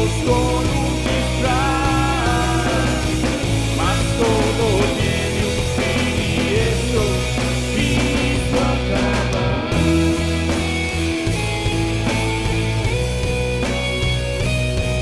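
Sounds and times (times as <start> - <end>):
lead guitar bending notes: 0.0 - 15.0
rock band playing: 0.0 - 15.0.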